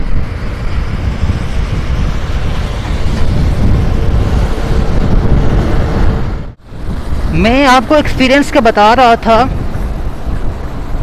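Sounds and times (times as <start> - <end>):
road noise: 0.0 - 11.0
wind rumbling on microphone: 0.0 - 11.0.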